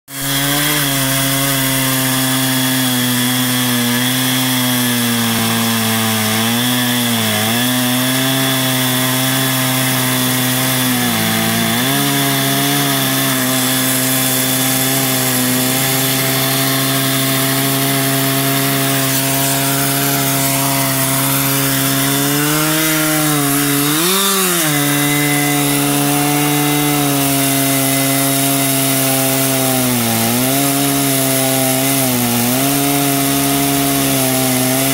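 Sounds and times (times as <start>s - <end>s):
chainsaw ripping a log: 0.1s - 34.9s.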